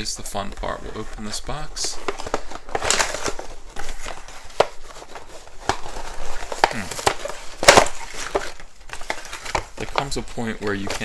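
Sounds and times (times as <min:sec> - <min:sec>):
toy box packaging clicks and crinkles: 0:00.5 - 0:11.0.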